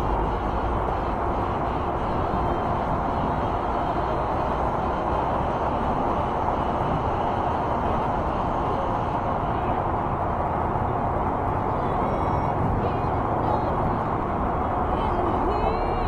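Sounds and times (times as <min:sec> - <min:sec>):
highway traffic: 0:00.0 - 0:16.0.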